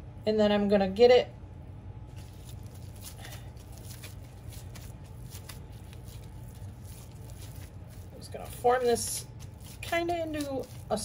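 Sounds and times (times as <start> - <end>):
steady low hum: 0.0 - 11.0
plastic gloves crinkling: 2.0 - 11.0
raw meat squishing: 2.1 - 11.0.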